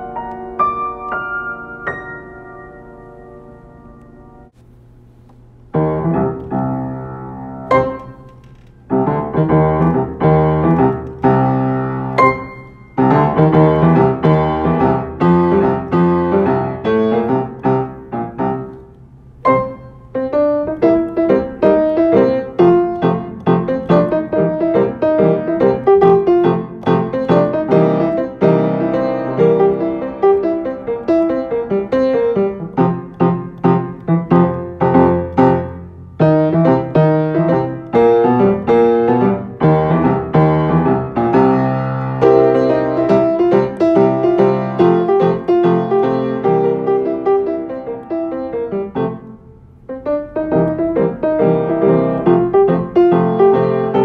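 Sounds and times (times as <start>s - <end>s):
solo piano: 0.0s - 4.6s, 5.7s - 54.0s.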